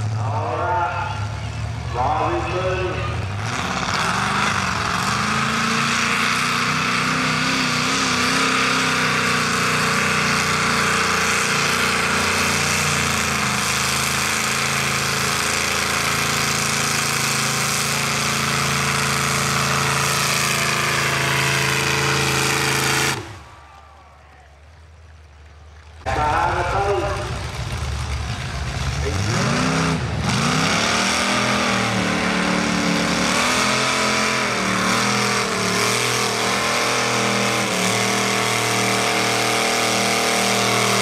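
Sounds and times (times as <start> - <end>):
truck engine revving hard: 0.0 - 23.6, 26.2 - 41.0.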